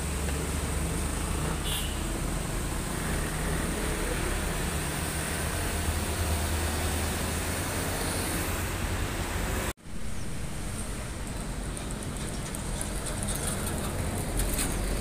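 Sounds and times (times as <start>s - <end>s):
diesel truck engine rumble: 0.0s - 15.0s
tyre and road noise: 0.0s - 15.0s.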